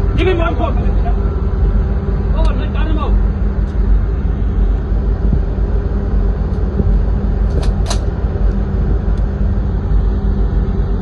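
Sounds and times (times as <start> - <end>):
ship engine rumble and hum: 0.0 - 11.0.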